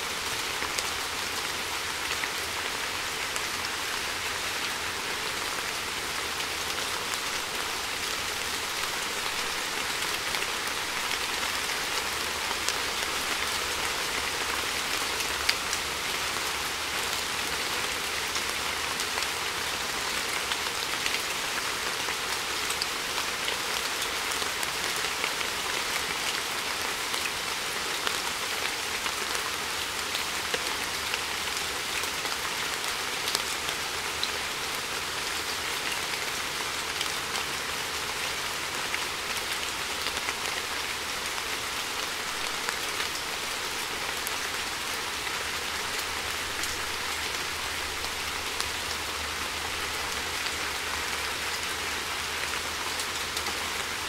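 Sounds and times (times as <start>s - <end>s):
heavy rain on metal barrel: 0.1s - 54.0s.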